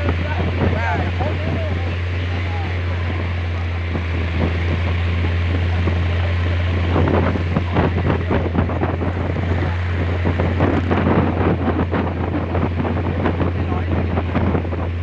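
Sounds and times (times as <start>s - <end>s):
hull slapping on water: 0.0s - 15.0s
speedboat engine drone: 0.0s - 15.0s
wind noise on microphone: 0.0s - 15.0s.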